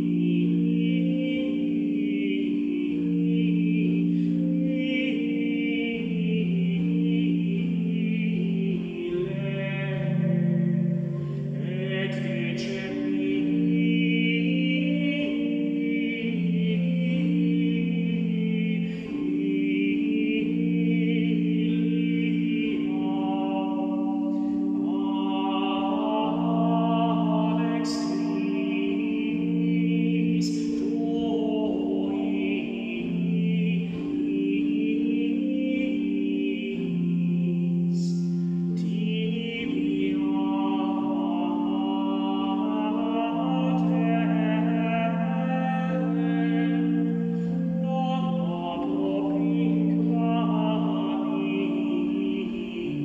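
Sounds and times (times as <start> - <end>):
unaccompanied chant singing: 0.0 - 53.0.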